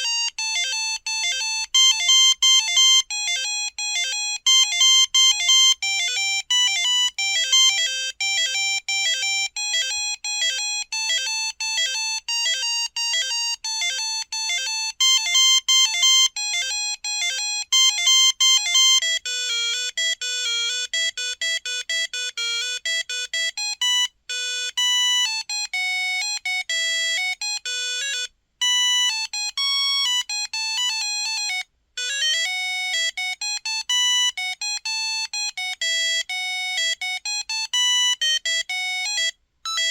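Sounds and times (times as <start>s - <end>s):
monophonic phone ringtone: 0.0s - 39.9s.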